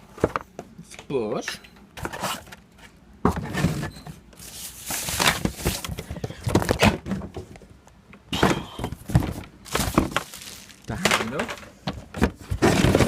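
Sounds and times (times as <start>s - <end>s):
knocking and rustling of vacuum parts: 0.0s - 4.2s, 5.0s - 13.0s.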